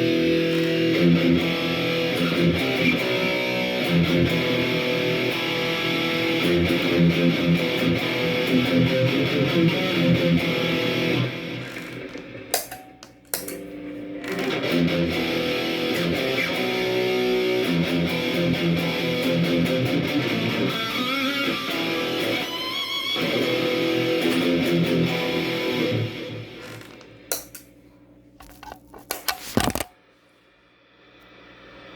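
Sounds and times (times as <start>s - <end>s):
overdriven electric guitar chords: 0.0s - 27.6s.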